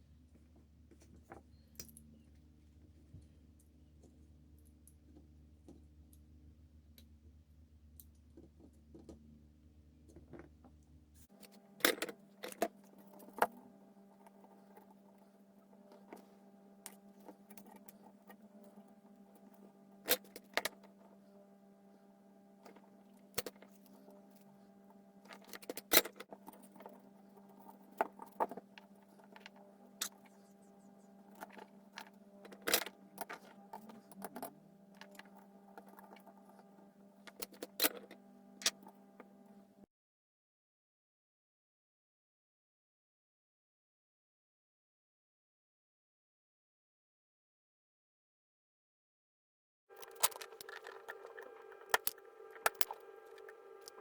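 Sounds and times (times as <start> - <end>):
low electrical hum: 0.0 - 39.9, 49.9 - 54.0.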